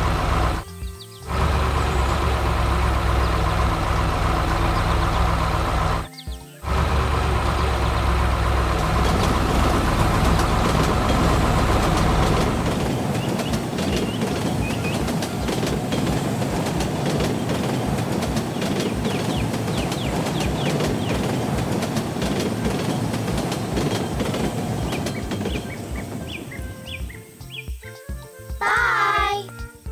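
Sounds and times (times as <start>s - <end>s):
heavy vehicle rumbling: 0.0s - 0.6s, 1.3s - 27.4s
children's music jingle: 6.0s - 29.9s.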